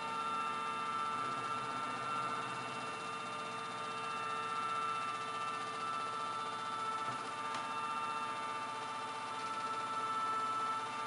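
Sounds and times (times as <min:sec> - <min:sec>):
toy washing machine motor whining: 0:00.0 - 0:11.0.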